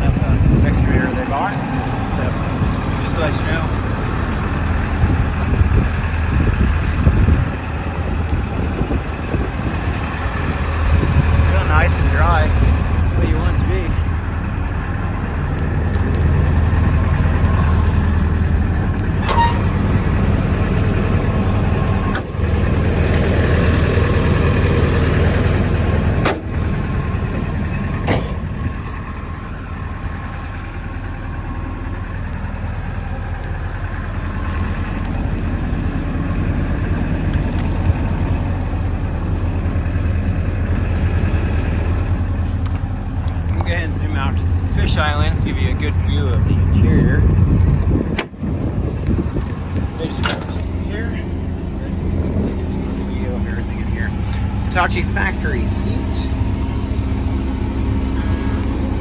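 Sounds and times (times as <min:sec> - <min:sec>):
excavator diesel engine idling: 0:00.0 - 0:59.0.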